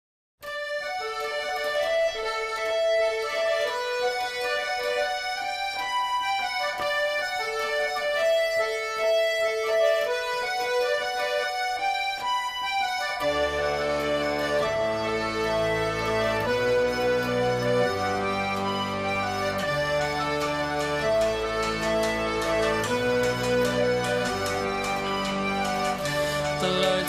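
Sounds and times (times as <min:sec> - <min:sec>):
background music with held notes: 0:00.4 - 0:27.0.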